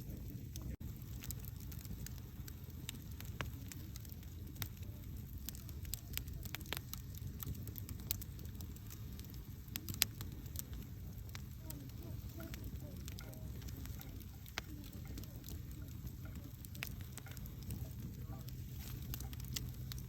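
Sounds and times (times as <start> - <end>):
campfire flames rumbling: 0.0 - 20.0
wood crackling and popping: 0.0 - 20.0.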